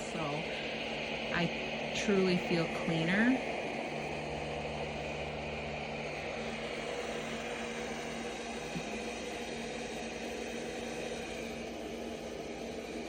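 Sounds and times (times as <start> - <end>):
robot vacuum whirring: 0.0 - 13.0.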